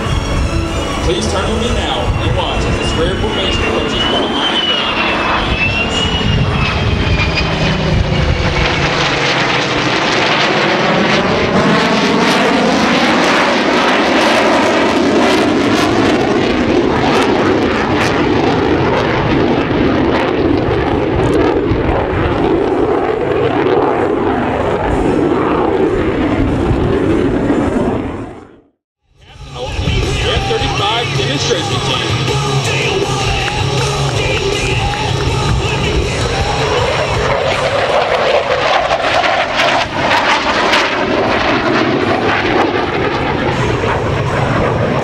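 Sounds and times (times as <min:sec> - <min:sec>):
propeller plane piston engines: 0:00.0 - 0:28.4, 0:29.2 - 0:45.0
jet engine roar: 0:00.0 - 0:45.0.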